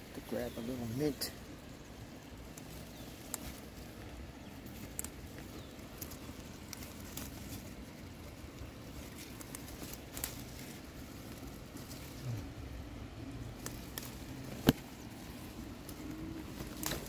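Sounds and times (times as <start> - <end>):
leaves rustling and stems snapping: 0.0 - 17.0.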